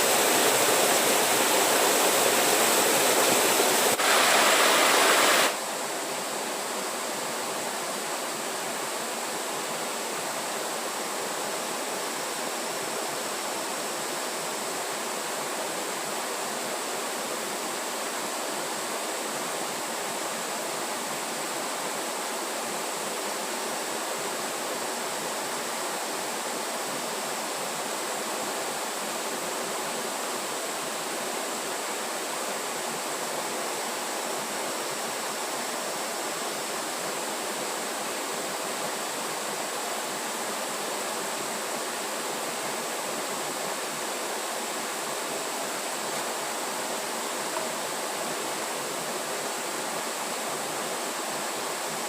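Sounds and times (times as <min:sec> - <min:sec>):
water rushing: 0:00.0 - 0:52.0.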